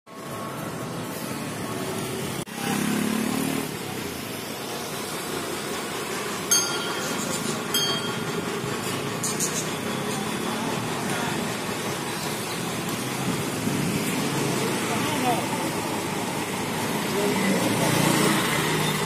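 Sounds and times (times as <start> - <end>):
city traffic noise: 0.1 - 19.0.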